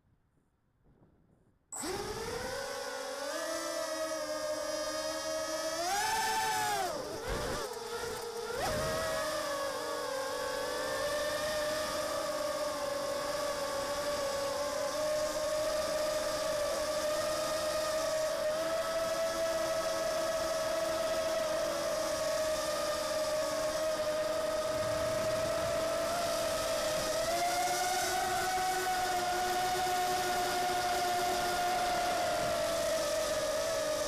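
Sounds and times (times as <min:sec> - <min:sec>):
drone motors and propellers whining: 0:01.8 - 0:34.0.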